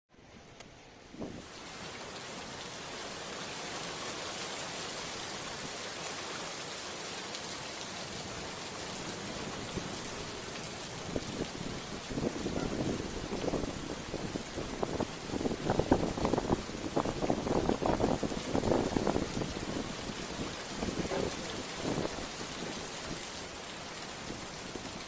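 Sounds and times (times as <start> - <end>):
steady rain falling: 0.5 - 25.0.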